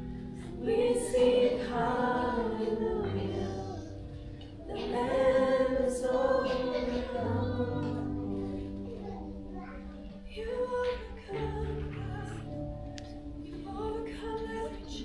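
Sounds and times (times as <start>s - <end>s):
congregation singing: 0.0s - 9.5s, 10.1s - 15.0s
low instrumental accompaniment: 0.0s - 15.0s.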